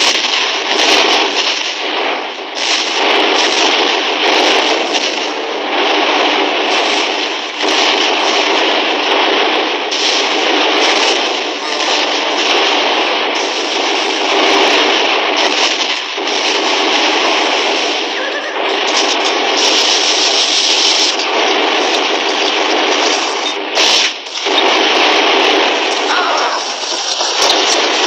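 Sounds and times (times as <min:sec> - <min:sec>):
gunfire: 0:00.0 - 0:28.0.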